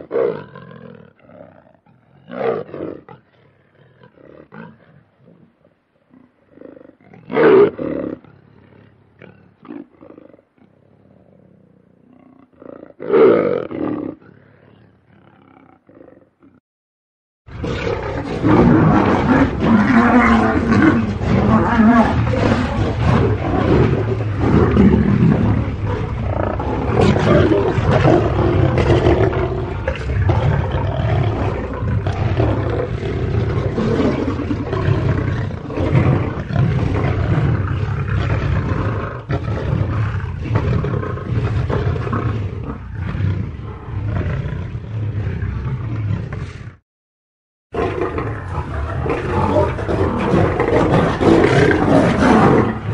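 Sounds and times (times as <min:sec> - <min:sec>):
lion roaring: 0:00.0 - 0:05.6, 0:06.2 - 0:16.6, 0:17.5 - 0:46.8, 0:47.8 - 0:52.9.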